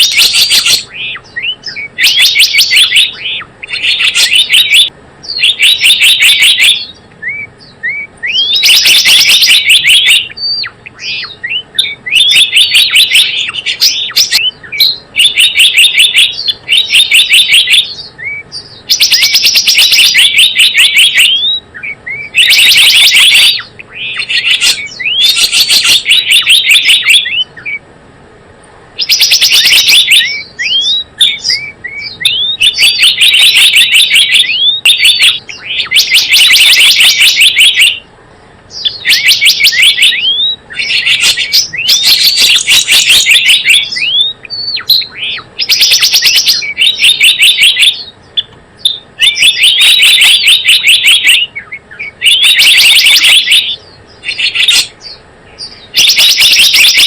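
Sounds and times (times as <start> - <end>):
rising whistled bird notes: 0.0 - 27.8, 29.0 - 38.0, 38.7 - 57.0
bird rapid chirping: 0.0 - 27.9, 29.0 - 57.0.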